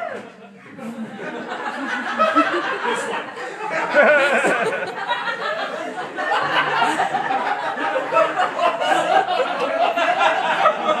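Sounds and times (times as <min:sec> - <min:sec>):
audience laughing: 0:00.4 - 0:11.0
overlapping voices: 0:01.2 - 0:11.0.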